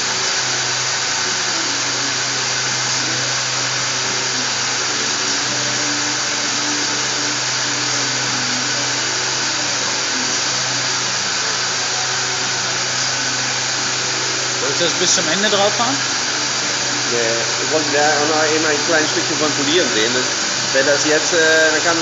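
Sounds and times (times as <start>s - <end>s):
machine low hum: 0.0s - 22.0s
sanding machine hiss: 0.0s - 22.0s.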